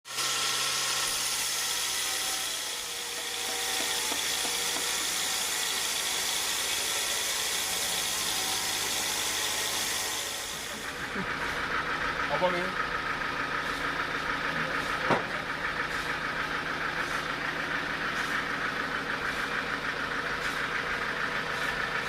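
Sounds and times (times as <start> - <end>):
sawmill machinery whine: 0.1 - 22.0
low machinery hum: 1.8 - 8.6, 10.4 - 22.0.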